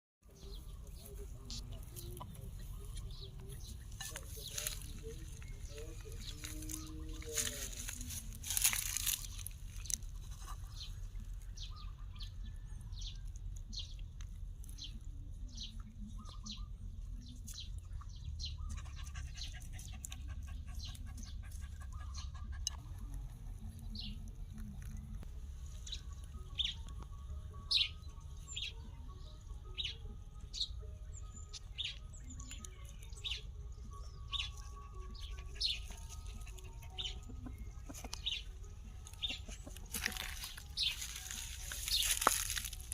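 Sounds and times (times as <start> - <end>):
bird chirping: 0.2 - 42.9.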